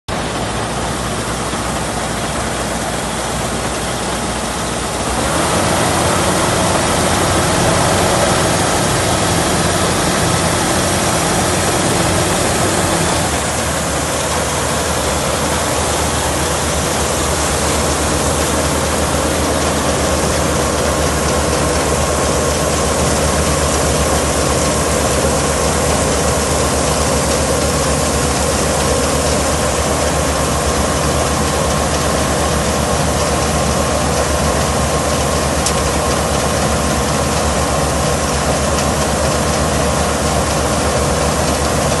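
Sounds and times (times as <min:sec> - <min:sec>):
combine harvester engine and auger: 0:00.1 - 0:42.0
grain pouring from spout: 0:00.2 - 0:42.0.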